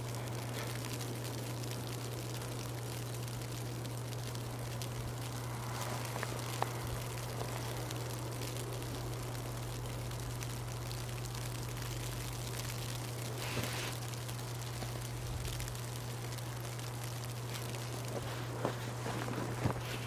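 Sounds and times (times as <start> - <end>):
crunches in snow: 0.0 - 9.3, 12.1 - 20.0
low hum and faint hiss: 0.0 - 20.0.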